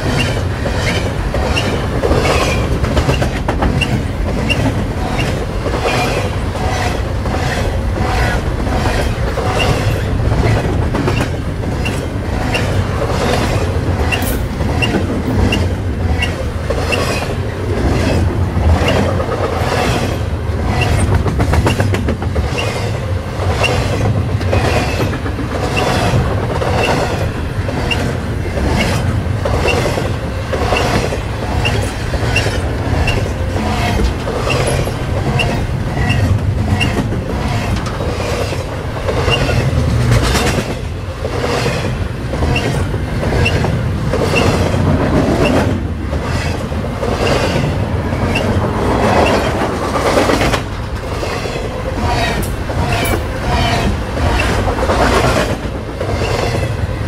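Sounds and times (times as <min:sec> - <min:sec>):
train rumbling past: 0:00.0 - 0:57.0
wheels clacking over rail joints: 0:00.0 - 0:57.0.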